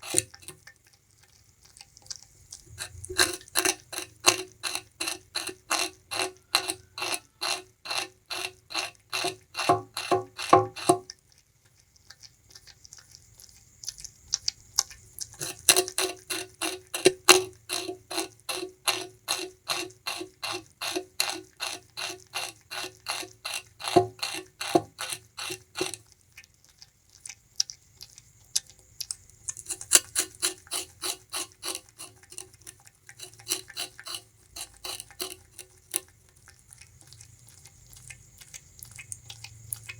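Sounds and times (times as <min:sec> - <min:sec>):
rodent gnawing sugarcane: 0:00.0 - 0:39.9.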